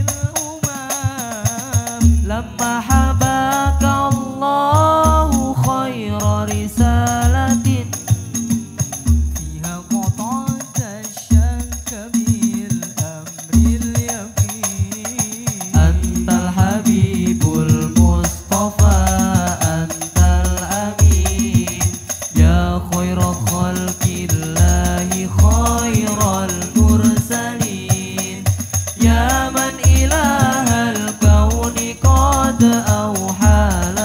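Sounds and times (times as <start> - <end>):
frame drums beating: 0.0 - 4.2, 6.3 - 34.0
men singing into microphones: 0.0 - 34.0.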